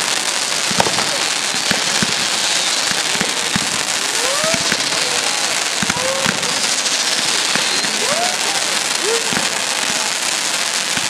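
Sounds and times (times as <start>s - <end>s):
fireworks bangs: 0.0s - 11.0s
fireworks crackling: 0.0s - 11.0s
fireworks whistles: 0.0s - 11.0s.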